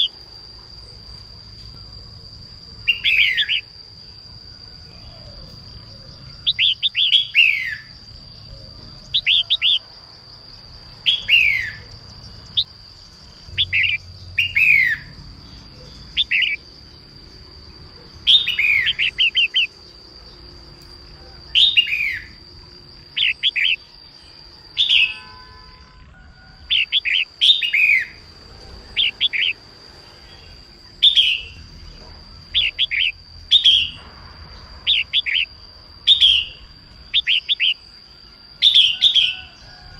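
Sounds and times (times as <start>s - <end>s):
bird chirping: 2.6s - 10.0s, 10.9s - 22.4s, 23.0s - 25.4s, 26.6s - 39.9s.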